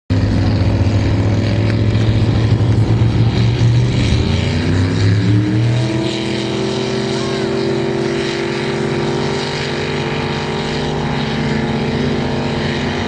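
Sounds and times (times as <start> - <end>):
motorboat engine drone: 0.1 - 13.0
second engine rising in pitch: 0.1 - 13.0.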